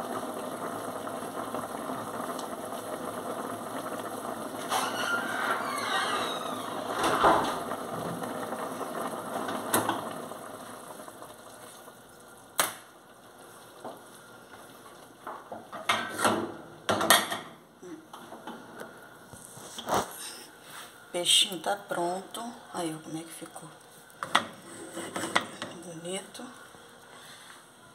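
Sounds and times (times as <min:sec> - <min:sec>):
noisy hiss: 0:00.0 - 0:27.9.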